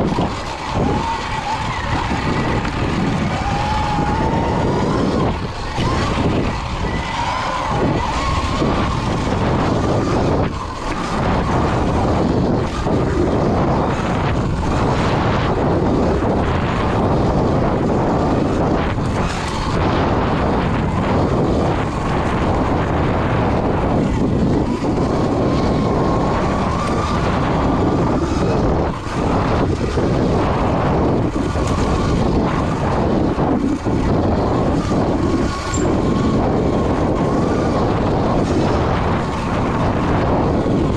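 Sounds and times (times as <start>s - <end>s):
electric motor whine: 0.0s - 40.9s
tyre noise on trail: 0.0s - 40.9s
wind noise: 0.0s - 40.9s.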